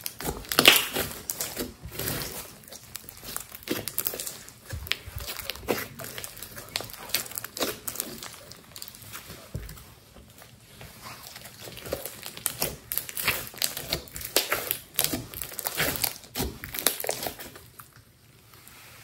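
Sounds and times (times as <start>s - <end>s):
slime crackling and popping: 0.0s - 18.1s.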